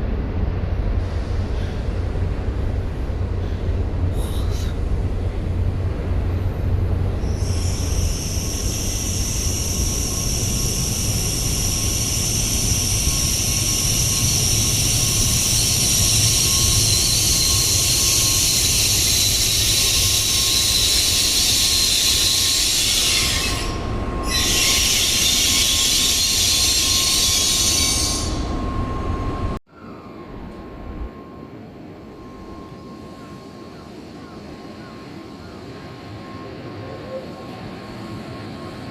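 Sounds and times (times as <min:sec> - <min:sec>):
train low rumble: 0:00.0 - 0:38.9
train high-pitched hiss and squeal: 0:03.3 - 0:04.9, 0:07.2 - 0:38.9.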